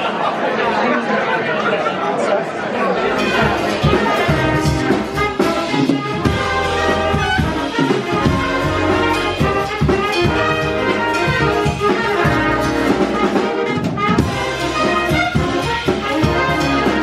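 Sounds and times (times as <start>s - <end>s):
big band jazz brass: 3.0s - 17.0s
drum hits: 3.1s - 17.0s.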